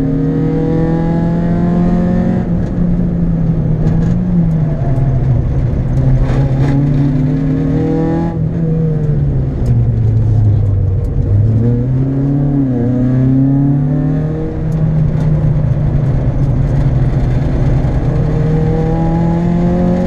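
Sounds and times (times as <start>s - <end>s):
car engine pulling hard: 0.0s - 20.0s.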